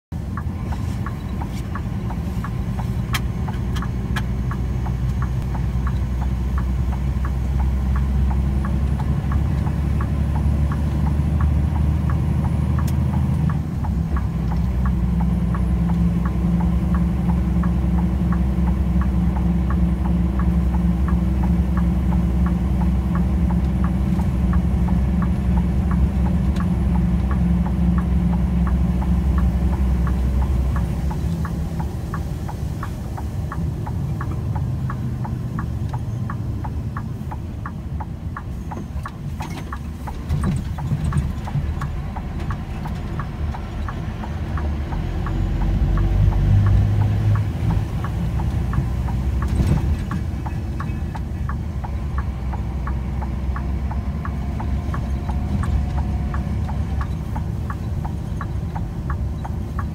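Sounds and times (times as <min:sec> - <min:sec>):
car engine drone: 0:00.0 - 0:59.9
road noise: 0:00.0 - 0:59.9
tyres ticking over slab joints: 0:00.3 - 0:59.9.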